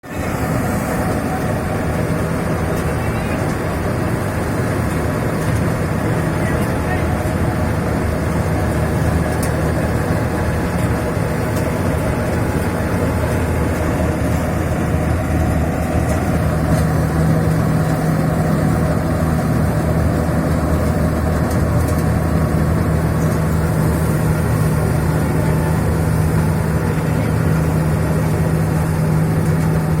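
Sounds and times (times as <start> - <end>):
combine harvester engine running: 0.0 - 30.0.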